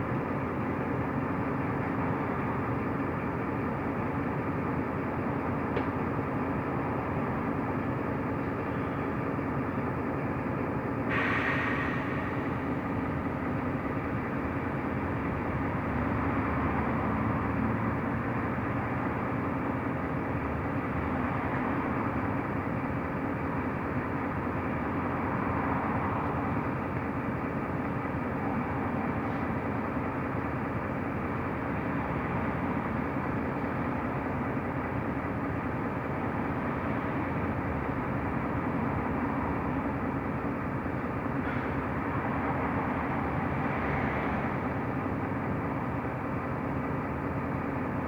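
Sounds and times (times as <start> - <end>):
bus engine drone: 0.0 - 48.0
road noise: 0.0 - 48.0.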